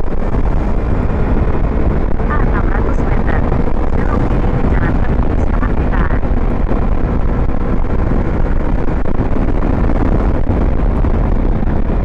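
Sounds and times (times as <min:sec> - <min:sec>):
motorcycle engine: 0:00.0 - 0:12.0
road noise: 0:00.0 - 0:12.0
wind rushing over microphone: 0:00.0 - 0:12.0.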